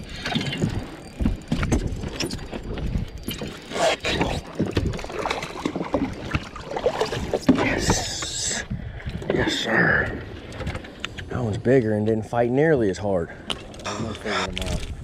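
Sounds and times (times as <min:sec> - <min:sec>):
rod and gear bumping boat: 0:00.0 - 0:12.3.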